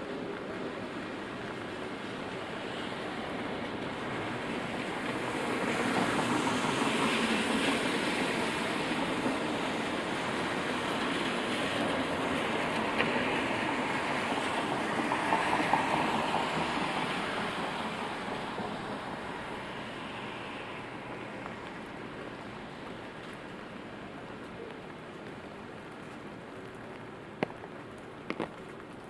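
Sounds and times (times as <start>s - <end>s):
large vehicle passing on wet street: 0.0s - 29.0s
rain: 0.0s - 29.0s.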